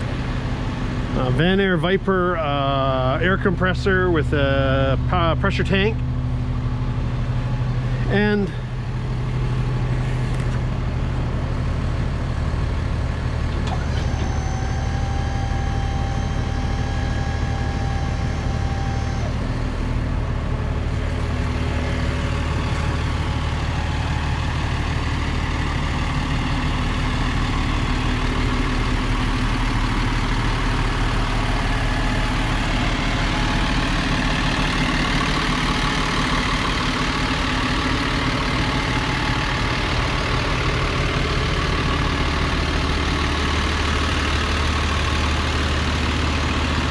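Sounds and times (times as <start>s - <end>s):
diesel truck engine idling: 0.0s - 46.9s.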